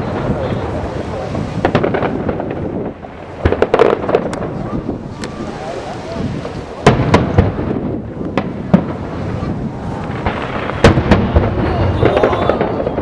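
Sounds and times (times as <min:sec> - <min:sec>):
fireworks bursting: 0:00.0 - 0:05.6, 0:06.3 - 0:13.0.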